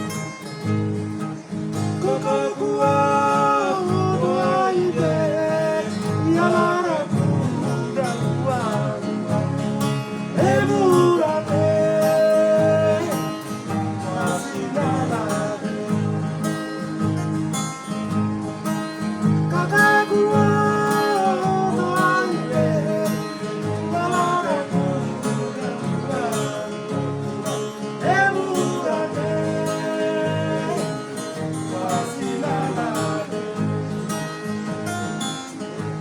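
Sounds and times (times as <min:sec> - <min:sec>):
acoustic guitars strumming: 0:00.0 - 0:36.0
person singing: 0:02.0 - 0:17.0, 0:19.5 - 0:34.4.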